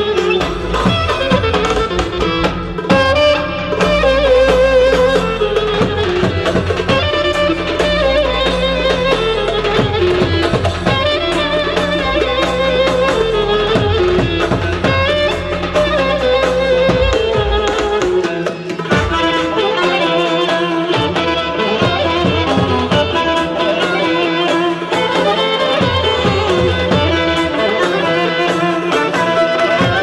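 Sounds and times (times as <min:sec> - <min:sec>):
traditional dance music: 0:00.0 - 0:30.0.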